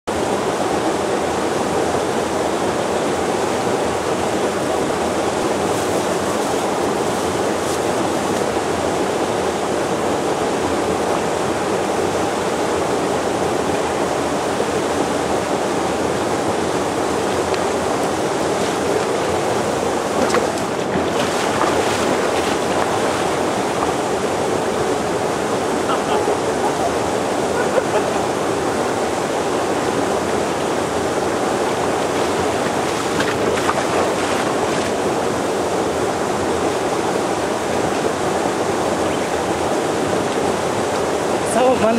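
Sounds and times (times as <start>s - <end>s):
stream rushing over rocks: 0.1s - 41.9s.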